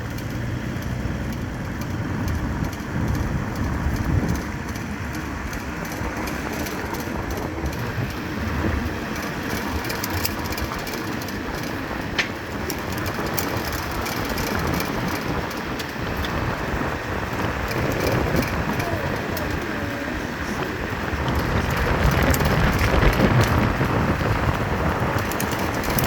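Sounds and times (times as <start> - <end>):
fast ticking: 0.0 - 26.0.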